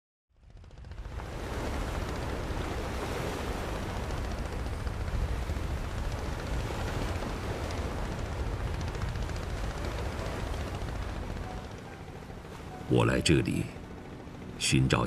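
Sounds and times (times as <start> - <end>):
wind: 0.3 - 15.0.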